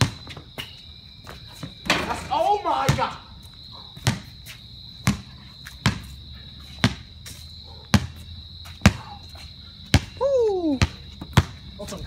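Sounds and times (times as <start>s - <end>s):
basketball bouncing on concrete: 0.0s - 12.0s
crickets chirring: 0.0s - 12.0s.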